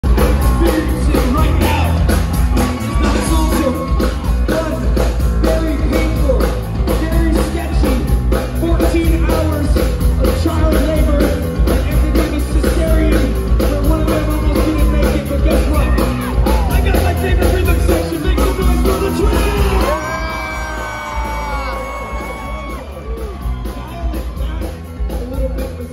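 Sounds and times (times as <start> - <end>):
live ska punk band: 0.0 - 25.9.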